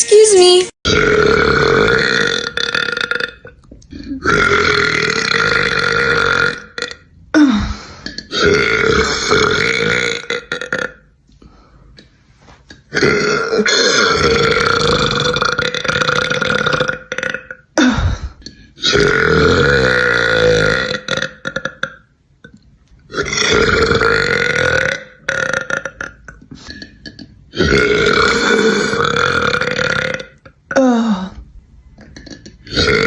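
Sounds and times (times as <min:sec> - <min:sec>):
woman burping: 0:00.9 - 0:11.1, 0:12.7 - 0:31.4, 0:32.0 - 0:33.0.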